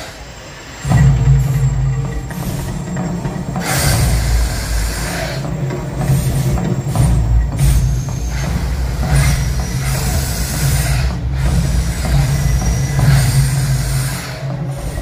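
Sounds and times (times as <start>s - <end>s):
gas flame jets bursting: 0.0s - 15.0s
deep rumble: 0.8s - 15.0s.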